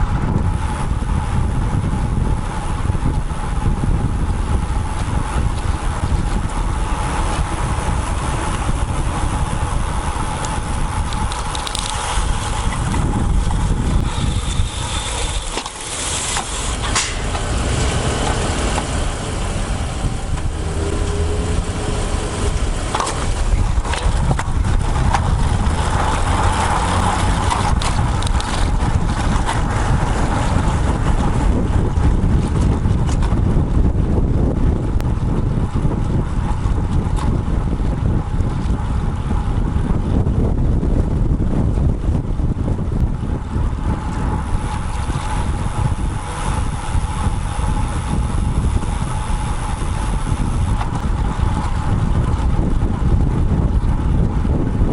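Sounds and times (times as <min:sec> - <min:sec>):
road traffic rumble: 0:00.0 - 0:54.9
wind rushing over microphone: 0:00.0 - 0:54.9.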